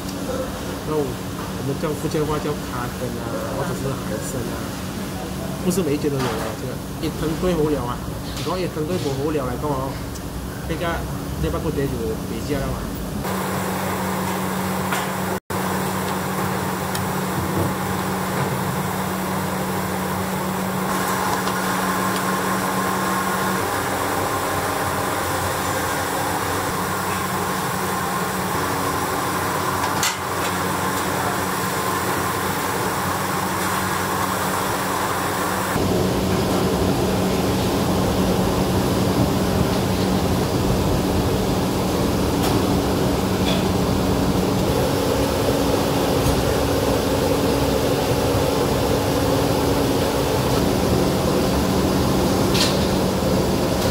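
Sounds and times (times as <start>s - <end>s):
restaurant kitchen machine hum: 0.0s - 53.9s.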